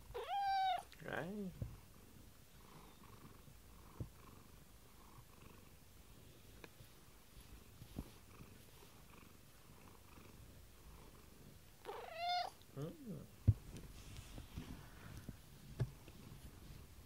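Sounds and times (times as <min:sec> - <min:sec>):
cat purring: 0:00.2 - 0:17.0.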